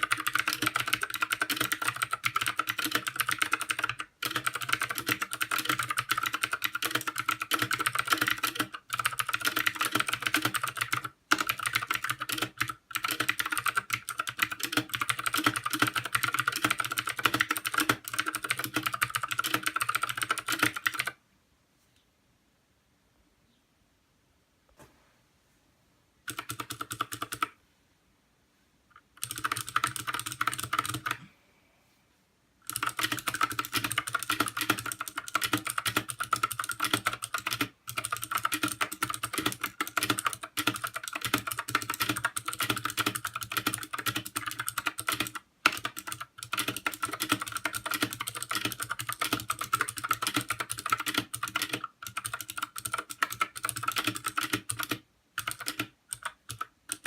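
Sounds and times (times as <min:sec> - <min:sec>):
mechanical keyboard typing: 0:00.0 - 0:21.2, 0:26.2 - 0:27.6, 0:28.9 - 0:31.2, 0:32.6 - 0:57.0.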